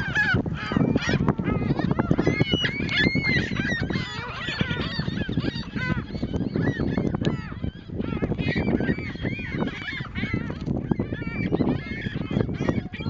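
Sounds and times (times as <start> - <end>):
seagulls squawking: 0.0 - 13.0.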